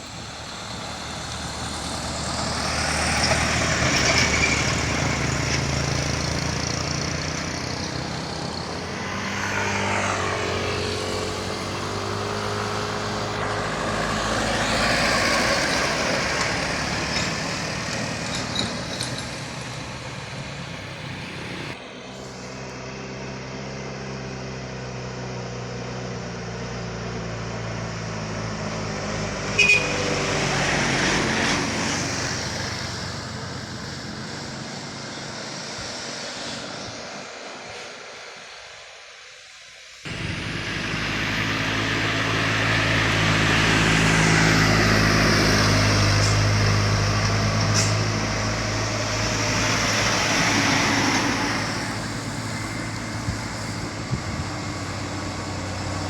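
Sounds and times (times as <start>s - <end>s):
heavy diesel truck engines labouring: 0.0s - 56.0s.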